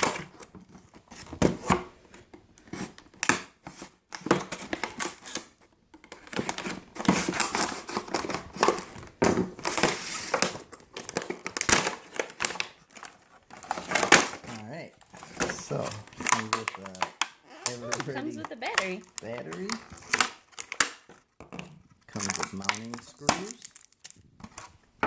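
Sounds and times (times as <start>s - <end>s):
packaging crinkling and rustling: 0.0s - 25.0s.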